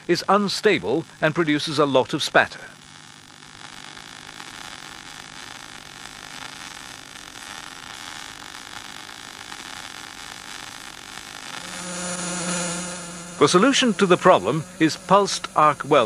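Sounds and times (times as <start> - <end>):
welding arc hissing and crackling: 0.0 - 16.0.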